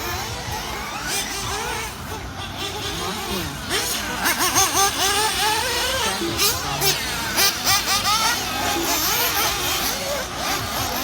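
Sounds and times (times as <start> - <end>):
rc car engines buzzing: 0.0 - 11.0.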